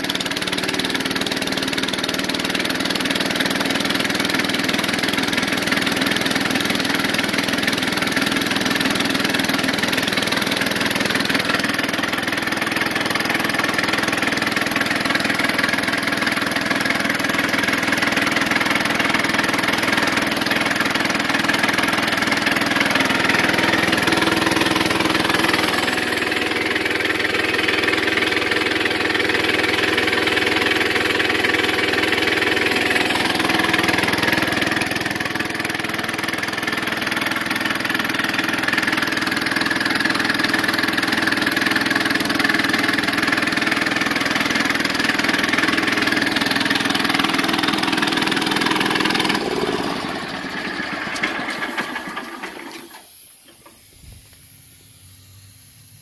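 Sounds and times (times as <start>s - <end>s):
single-cylinder engine running: 0.0s - 53.7s
air compressor pump: 0.0s - 56.0s.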